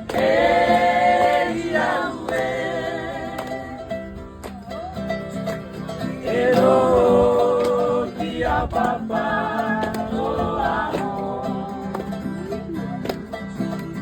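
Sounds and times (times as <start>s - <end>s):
plucked string accompaniment: 0.0s - 14.0s.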